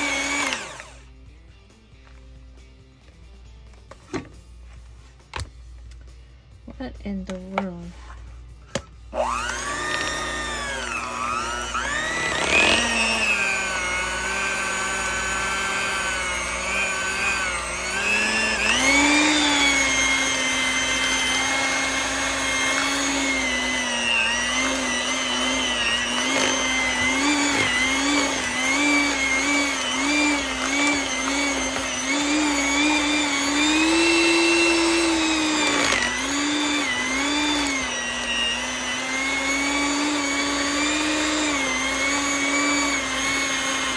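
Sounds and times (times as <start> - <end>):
electric hand mixer whine: 0.0 - 1.2, 9.1 - 43.9.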